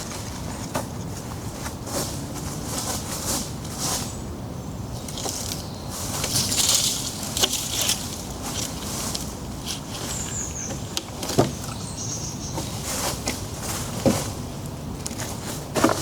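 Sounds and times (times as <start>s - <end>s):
rustling handling noise: 0.0s - 4.2s, 5.0s - 16.0s.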